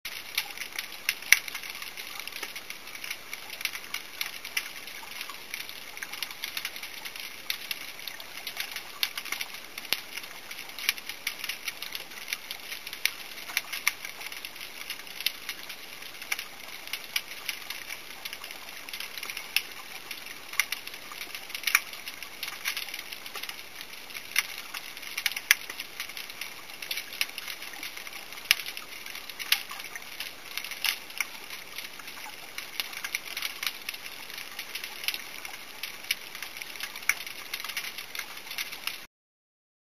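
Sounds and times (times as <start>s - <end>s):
underwater crackle of sharp clicks: 0.1s - 39.1s.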